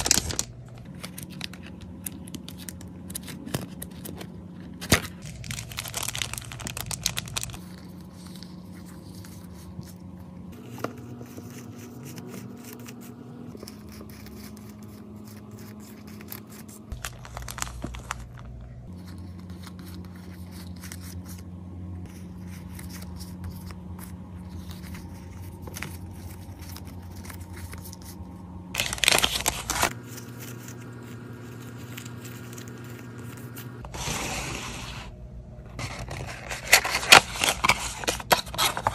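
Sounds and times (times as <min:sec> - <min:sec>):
packaging crinkling and tearing: 0:00.0 - 0:10.0, 0:10.6 - 0:21.4, 0:22.1 - 0:33.8, 0:35.8 - 0:38.9
steady low hum: 0:00.0 - 0:38.9.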